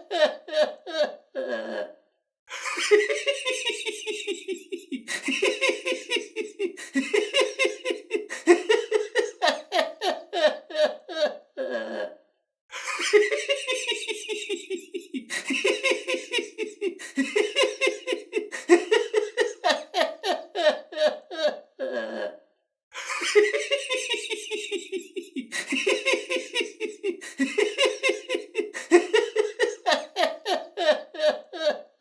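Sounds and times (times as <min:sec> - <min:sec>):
person laughing uncontrollably: 0:02.5 - 0:12.1, 0:12.8 - 0:22.3, 0:23.0 - 0:31.9.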